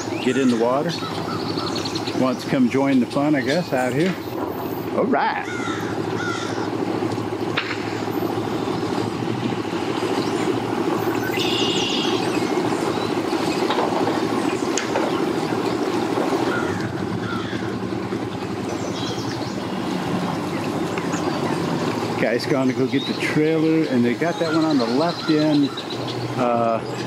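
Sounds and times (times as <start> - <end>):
boat engines idling: 0.0 - 27.0.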